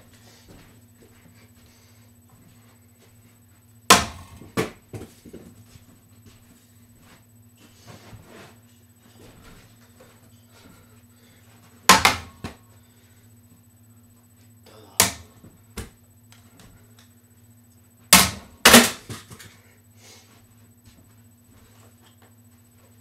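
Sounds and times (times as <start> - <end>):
electric fan hum: 0.0 - 23.0.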